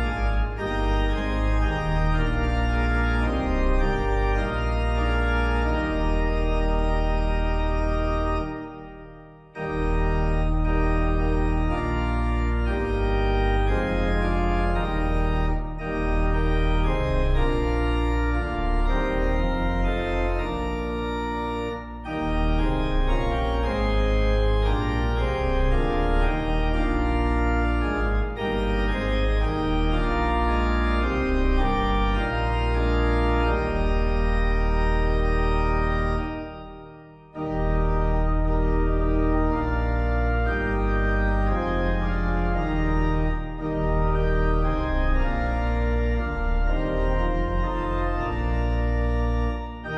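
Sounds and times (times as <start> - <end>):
organ playing a hymn: 0.0 - 49.9.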